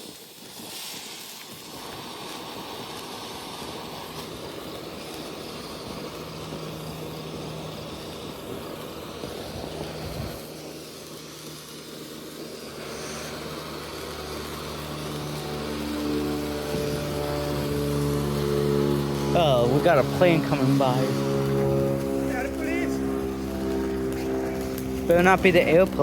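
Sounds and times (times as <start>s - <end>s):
background hiss: 0.0s - 26.0s
airplane engine drone overhead: 1.5s - 26.0s.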